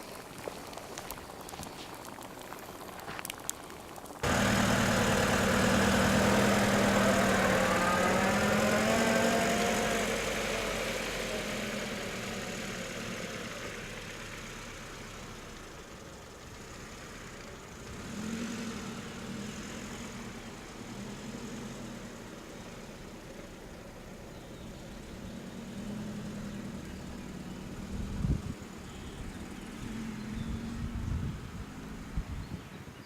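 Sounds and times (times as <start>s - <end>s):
car engine idling: 4.2s - 32.4s.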